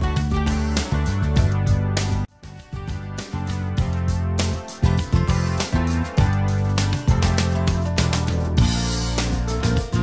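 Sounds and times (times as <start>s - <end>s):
rhythmic music with strong bass: 0.0s - 10.0s.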